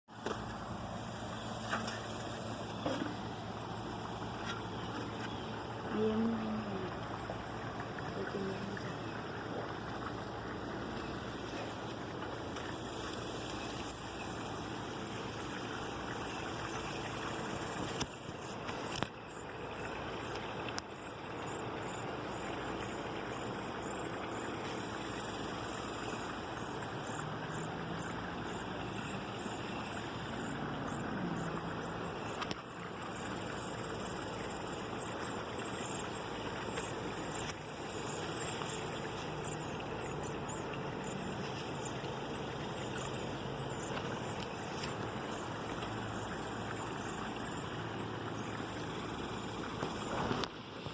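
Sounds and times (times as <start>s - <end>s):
steady background noise: 0.1s - 50.9s
small birds chirping: 0.2s - 50.2s.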